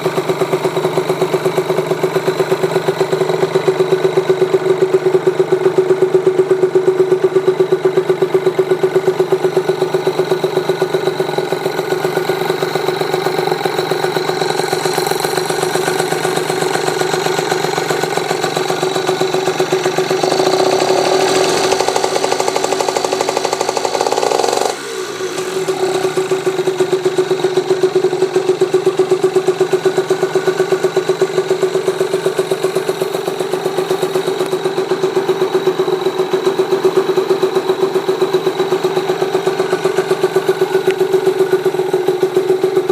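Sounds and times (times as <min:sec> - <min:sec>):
two-stroke motorcycle engine idling: 0:00.0 - 0:42.9.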